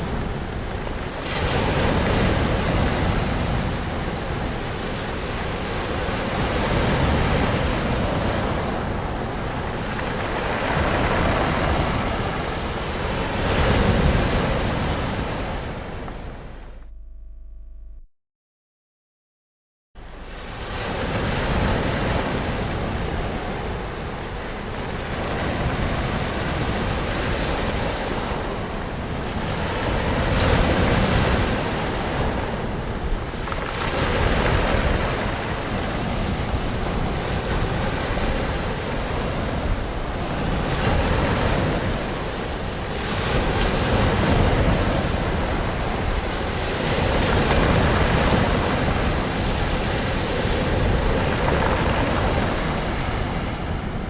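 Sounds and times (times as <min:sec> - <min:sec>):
ocean waves surging: 0:00.0 - 0:16.9, 0:20.0 - 0:54.0.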